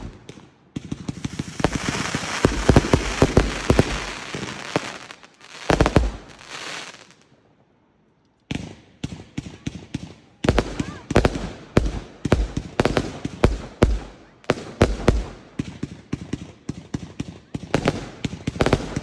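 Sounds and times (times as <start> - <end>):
fireworks bangs and crackling: 0.0 - 7.3, 8.5 - 19.0.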